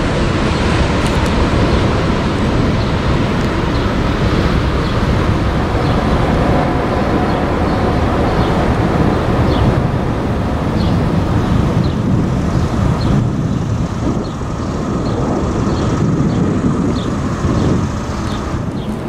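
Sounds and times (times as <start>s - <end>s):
steel wheels rumbling on rail: 0.0s - 19.0s.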